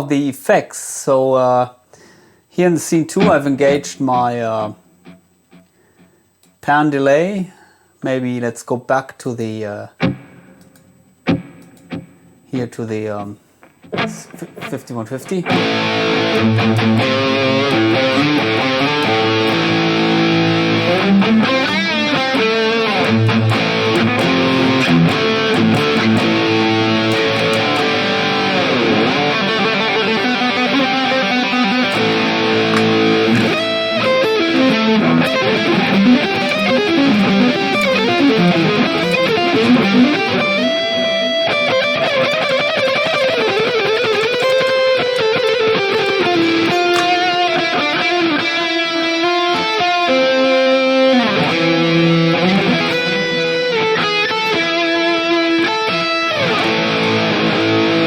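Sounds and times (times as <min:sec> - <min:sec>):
distorted electric guitar with delay: 0:10.0 - 0:12.4, 0:13.6 - 0:58.0.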